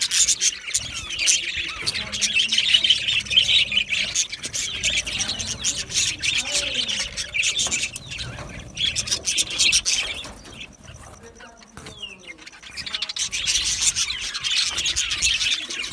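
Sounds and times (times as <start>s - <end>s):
budgerigars chattering: 0.0s - 15.9s.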